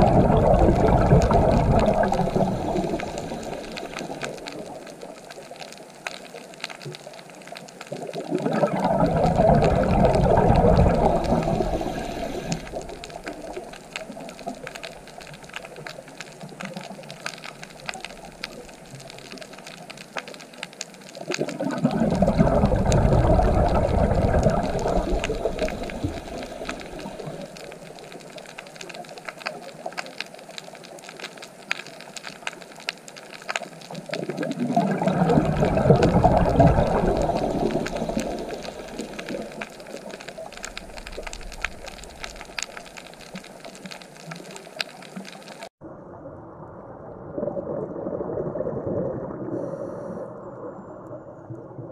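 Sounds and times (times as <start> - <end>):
exhaled bubbles gurgling underwater: 0.0 - 51.9
fine crackling of reef: 0.0 - 51.9.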